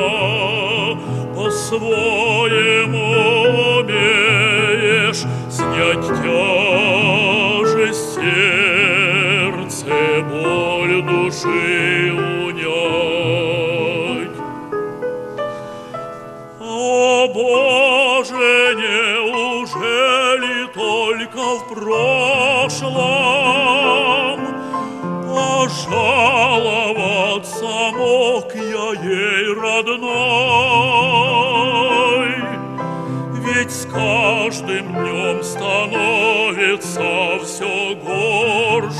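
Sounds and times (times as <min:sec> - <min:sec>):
man singing operatically: 0:00.0 - 0:14.7, 0:16.6 - 0:38.9
piano accompaniment: 0:00.0 - 0:38.9.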